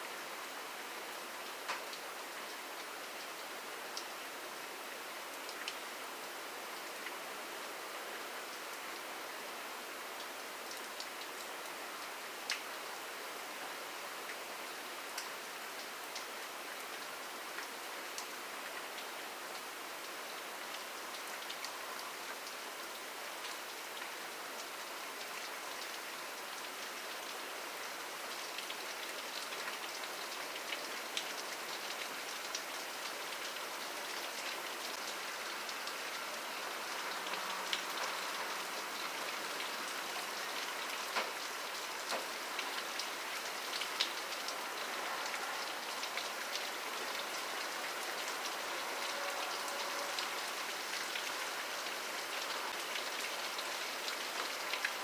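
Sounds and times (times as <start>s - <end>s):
steady rain falling: 0.0s - 55.0s
raindrops ticking on a surface: 1.4s - 4.1s, 5.2s - 6.0s, 10.2s - 12.8s, 14.2s - 55.0s.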